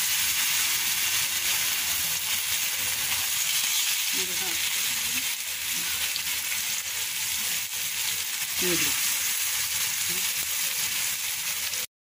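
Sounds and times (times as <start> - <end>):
patties sizzling in oil: 0.0 - 11.9.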